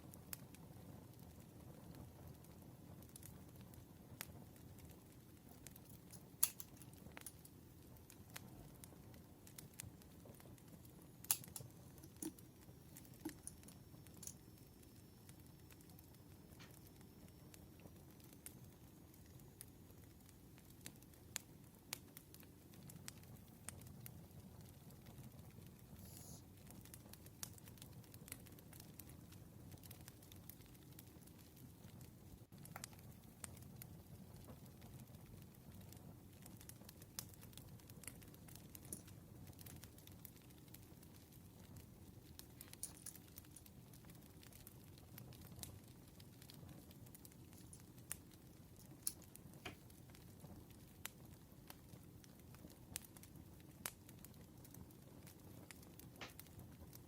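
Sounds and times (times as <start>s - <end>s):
campfire crackling: 0.0s - 57.0s
sharp pops of burning wood: 3.0s - 19.4s, 20.5s - 57.0s.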